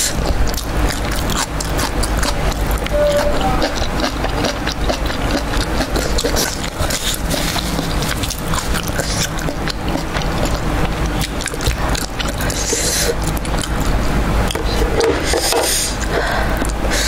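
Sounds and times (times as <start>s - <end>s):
crunchy chewing: 0.0s - 17.0s
chopsticks clicking and scraping: 0.2s - 15.8s.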